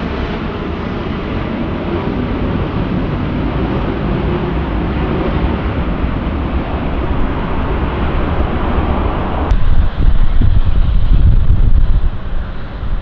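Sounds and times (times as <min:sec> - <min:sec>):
airliner engine rumble: 0:00.0 - 0:13.0
wind buffeting microphone: 0:00.0 - 0:13.0.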